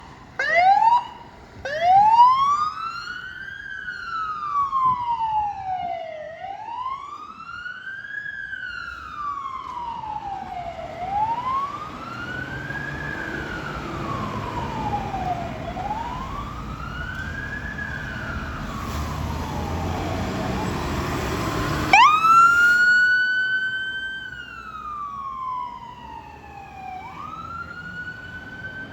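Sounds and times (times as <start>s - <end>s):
fire engine siren wailing: 0.0s - 28.9s.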